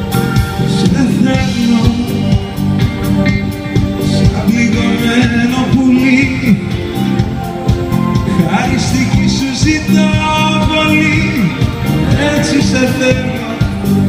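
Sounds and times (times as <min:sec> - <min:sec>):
drum kit beat: 0:00.0 - 0:14.0
live pop band playing: 0:00.0 - 0:14.0.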